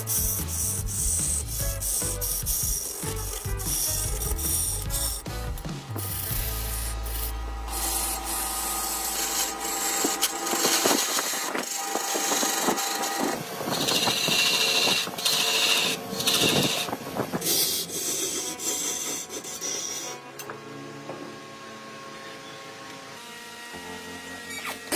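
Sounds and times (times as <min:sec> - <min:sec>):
steel tool scraping wood on lathe: 0:00.0 - 0:20.4.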